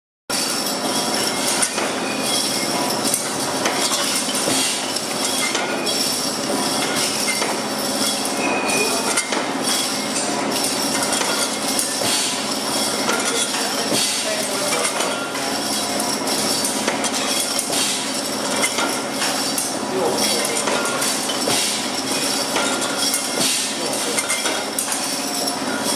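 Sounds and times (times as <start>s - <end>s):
glass bottles clinking: 0.3s - 25.9s
machine clatter: 0.3s - 25.9s
capping machine crimping caps: 0.4s - 25.9s.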